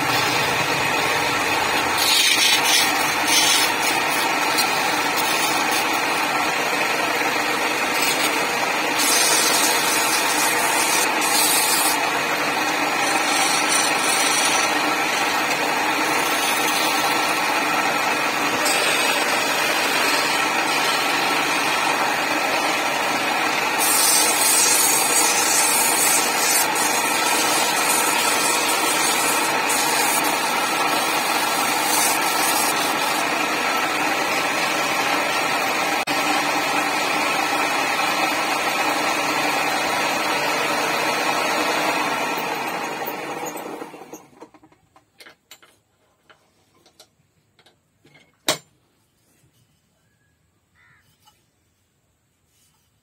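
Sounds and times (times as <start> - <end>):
lathe motor whine: 0.0 - 44.4
turning tool scraping wood: 0.0 - 44.5.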